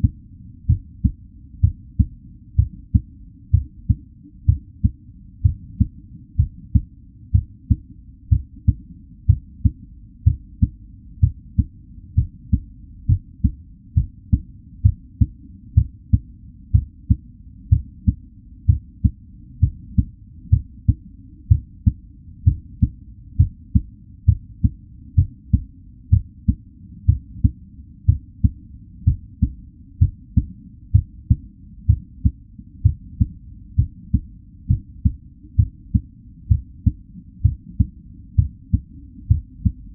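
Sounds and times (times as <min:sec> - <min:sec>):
human heartbeat thuds: 0:00.0 - 0:39.9.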